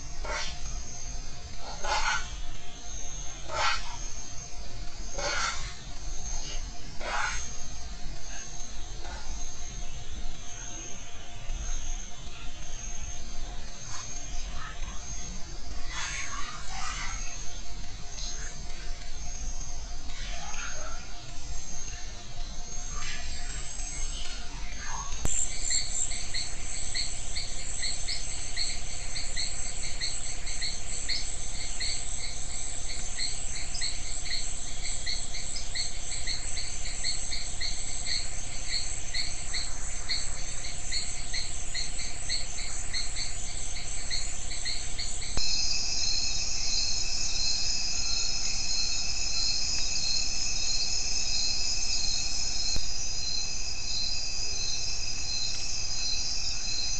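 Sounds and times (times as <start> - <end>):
continuous high insect buzz: 0.0 - 56.9
insects chirping in rhythmic pulse: 0.0 - 56.9.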